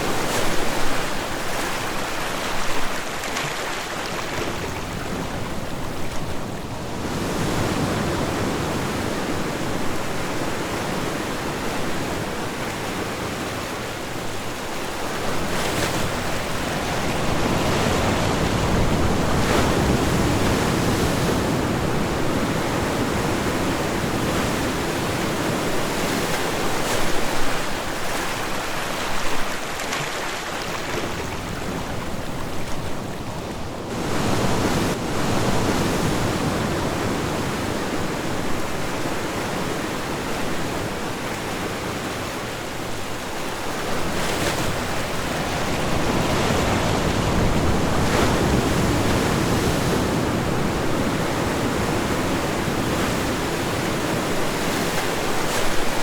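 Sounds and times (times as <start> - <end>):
ocean surf washing on shore: 0.0 - 56.0.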